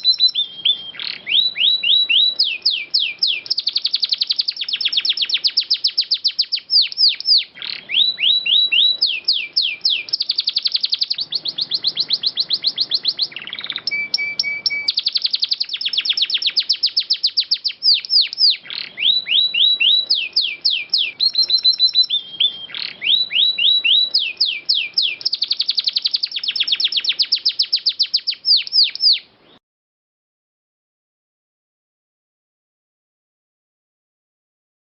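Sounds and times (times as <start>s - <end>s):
canary singing: 0.0s - 29.6s.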